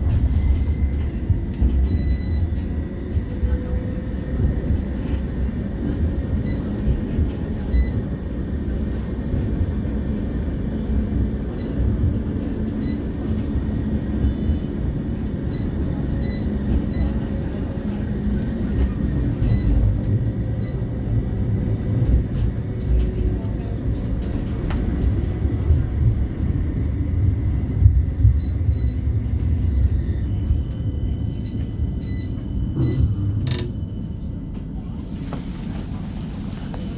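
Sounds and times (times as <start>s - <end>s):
tram wheels rumbling on rail: 0.0s - 36.9s.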